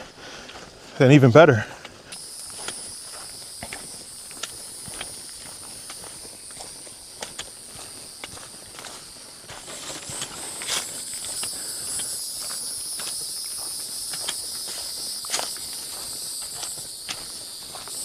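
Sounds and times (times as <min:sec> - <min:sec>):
footsteps on a trail: 0:00.0 - 0:18.0
insects chirring: 0:00.0 - 0:18.0.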